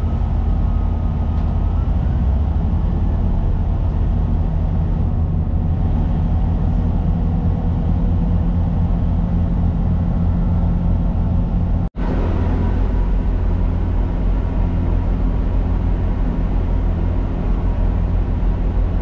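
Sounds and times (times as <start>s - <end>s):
train diesel engines rumbling: 0.0s - 19.0s.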